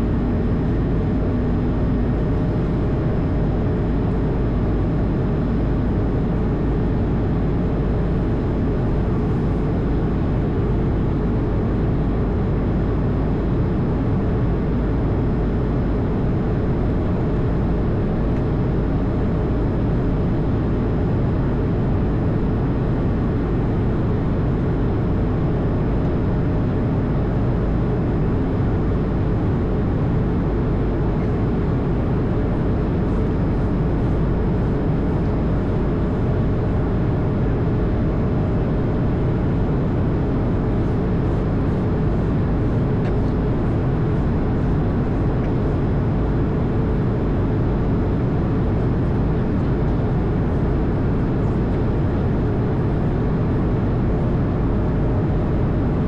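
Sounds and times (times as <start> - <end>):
aircraft engine rumble: 0.0 - 56.0
faint constant whine: 0.0 - 56.0.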